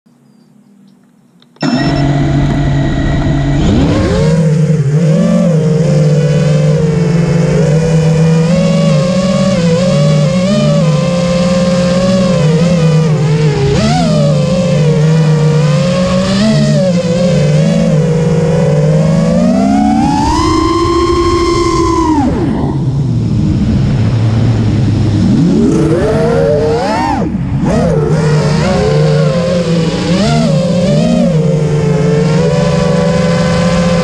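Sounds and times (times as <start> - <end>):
drone motors whining: 0.2 - 34.0.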